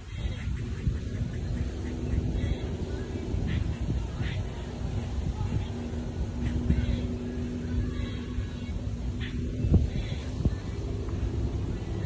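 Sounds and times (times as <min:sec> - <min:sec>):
constant low hum: 0:00.0 - 0:12.0
outdoor rumble: 0:00.0 - 0:12.0.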